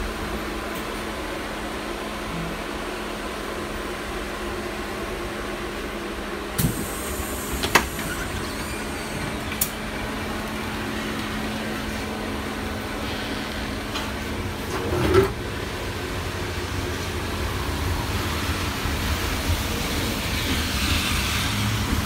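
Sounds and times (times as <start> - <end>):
tram interior hum: 0.0 - 22.0.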